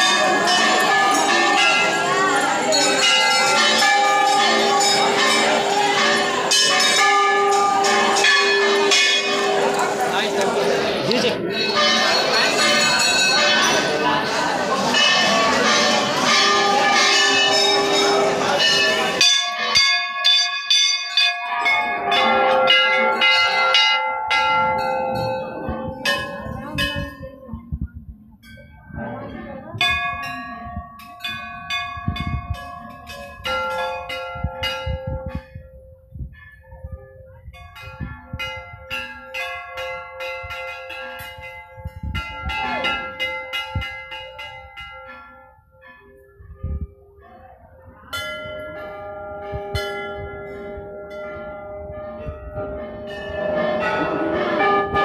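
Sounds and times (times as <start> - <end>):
temple bells ringing: 0.0 - 55.0.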